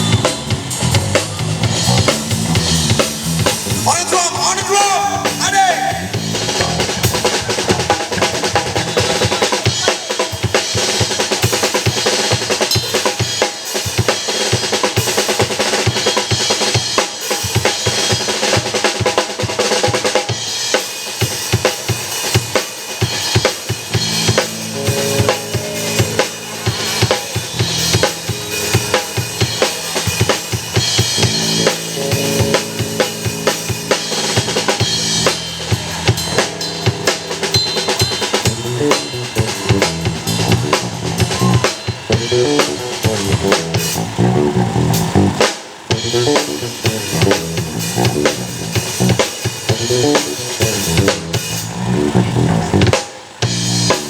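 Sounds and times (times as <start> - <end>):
drum kit playing fast rhythm: 0.0 - 54.0
held band instrument notes: 0.0 - 54.0.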